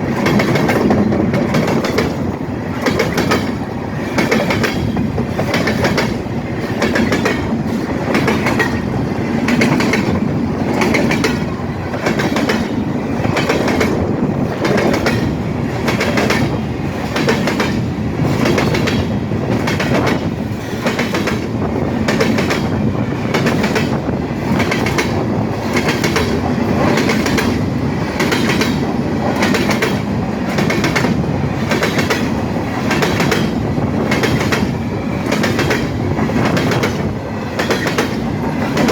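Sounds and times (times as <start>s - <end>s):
train rumble: 0.0s - 38.9s
train wheels clicking on rail joints: 0.0s - 38.9s.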